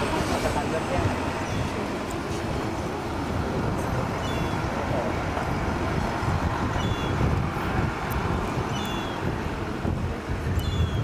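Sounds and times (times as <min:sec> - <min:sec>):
outdoor noise: 0:00.0 - 0:11.0
wind rumbling on microphone: 0:00.0 - 0:11.0.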